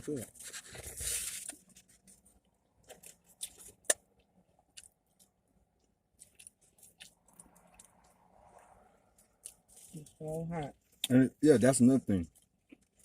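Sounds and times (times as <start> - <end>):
close-up chewing: 0.6 - 11.2, 12.1 - 13.0.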